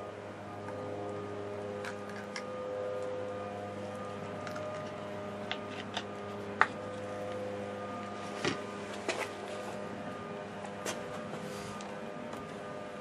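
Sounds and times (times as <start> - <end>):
steady motor hum: 0.0 - 13.0.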